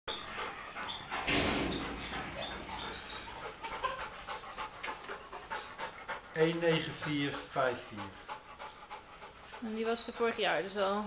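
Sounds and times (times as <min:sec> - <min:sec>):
birds chirping: 0:00.1 - 0:11.0
dog panting: 0:00.1 - 0:11.0.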